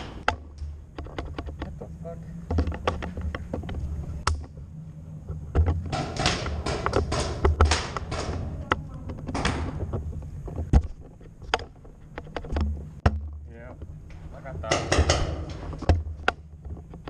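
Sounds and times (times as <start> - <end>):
sharp clicks and knocks: 0.0 - 1.9, 2.5 - 4.6, 5.5 - 17.0
low rumble: 0.0 - 17.0
rustling and scraping: 0.7 - 4.6, 5.2 - 17.0.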